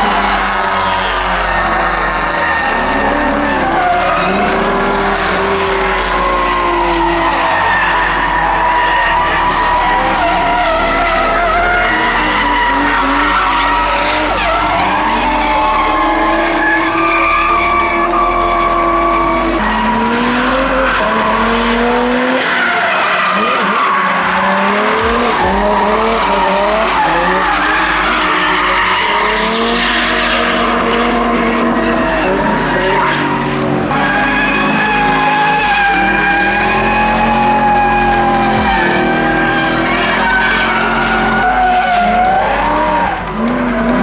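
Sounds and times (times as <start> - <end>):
car engines at high revs: 0.0 - 44.0
tyre squeal and skidding: 0.0 - 44.0.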